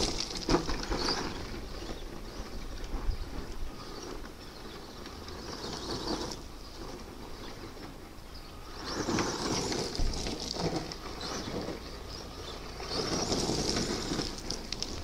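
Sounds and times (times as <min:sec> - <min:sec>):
rc truck motor and gears whining: 0:00.0 - 0:15.0
tyres crunching gravel: 0:00.0 - 0:15.0.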